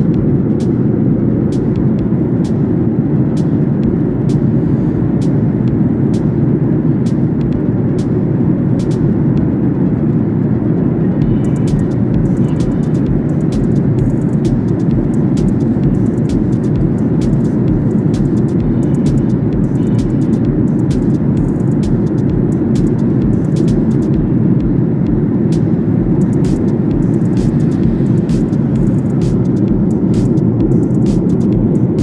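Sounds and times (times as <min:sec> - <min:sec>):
airliner cabin engine and airflow rush: 0:00.0 - 0:32.0.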